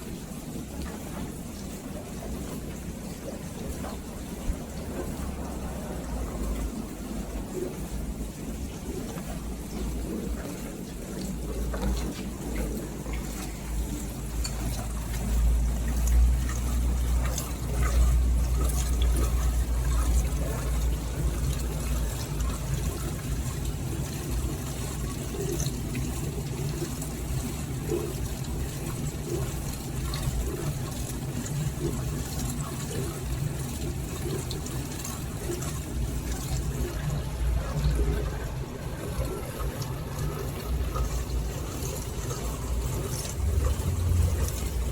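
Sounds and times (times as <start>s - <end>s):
dishwasher hum: 0.0s - 44.9s
water splashing in dishwasher: 0.0s - 44.9s.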